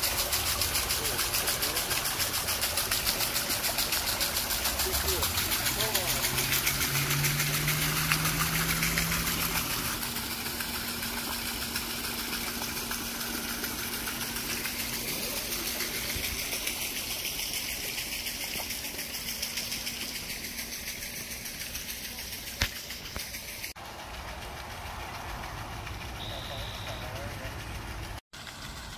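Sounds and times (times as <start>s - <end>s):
water splashing at watermill: 0.0s - 28.9s.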